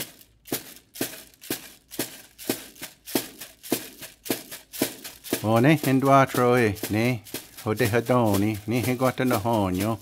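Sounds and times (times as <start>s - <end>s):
hand rattle shaken in a beat: 0.0s - 10.0s.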